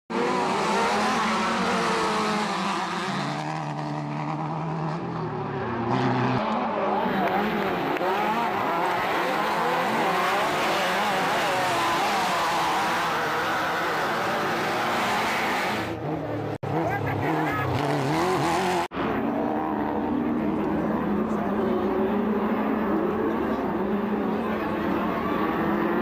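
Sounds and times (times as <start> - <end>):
off-road buggy engines revving: 0.1 - 26.0.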